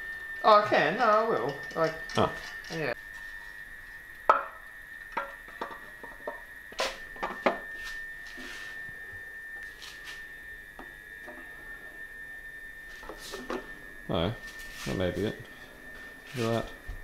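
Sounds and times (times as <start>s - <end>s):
steady high-pitched tone: 0.0s - 17.0s.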